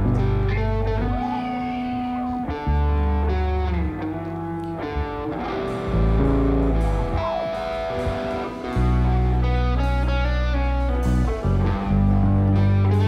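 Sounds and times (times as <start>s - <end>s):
bass guitar: 0.0s - 13.0s
electric guitar: 0.0s - 13.0s
keyboard chords: 0.0s - 13.0s.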